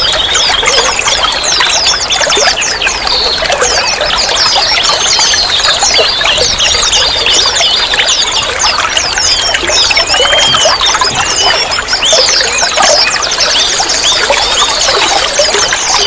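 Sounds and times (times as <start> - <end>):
songbirds chirping: 0.0 - 16.0
trickling water: 0.0 - 16.0.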